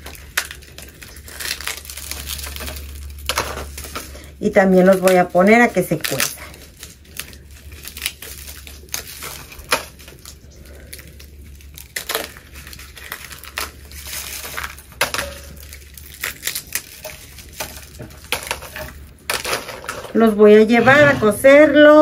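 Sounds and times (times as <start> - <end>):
dried chiles crackling: 0.0 - 22.0.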